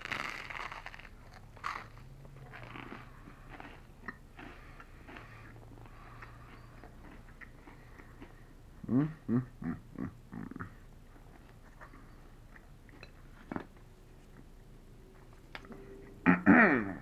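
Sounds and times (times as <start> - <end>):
chewing crusty bread: 0.0 - 15.8.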